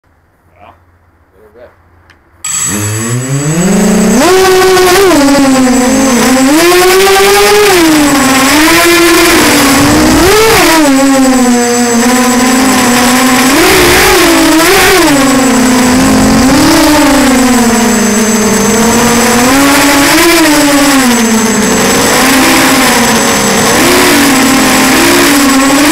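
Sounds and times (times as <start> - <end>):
quadcopter motors whining: 2.5 - 25.9.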